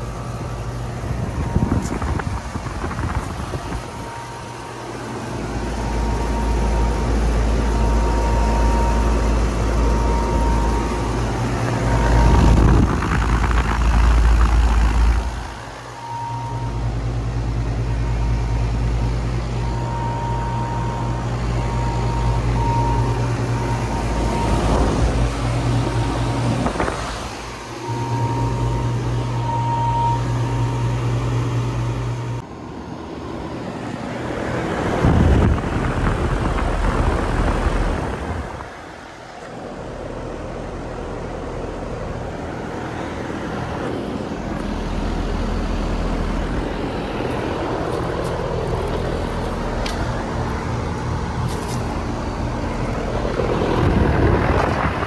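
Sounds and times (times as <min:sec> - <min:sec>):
air conditioner compressor hum: 0:00.0 - 0:55.0
condenser fan rushing: 0:00.0 - 0:55.0
low unit drone: 0:00.0 - 0:55.0.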